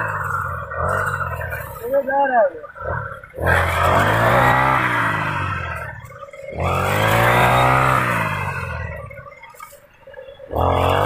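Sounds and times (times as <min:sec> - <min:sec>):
brush cutter engine revving: 0:00.0 - 0:09.7, 0:10.4 - 0:11.0.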